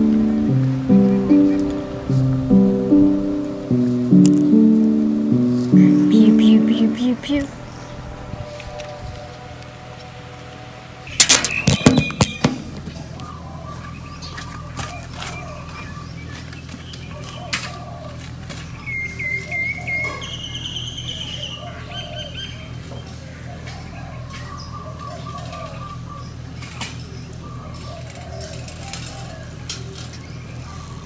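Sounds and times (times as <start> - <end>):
birds chirping and trilling: 0.0 - 31.0
street ambience hum: 0.0 - 31.0.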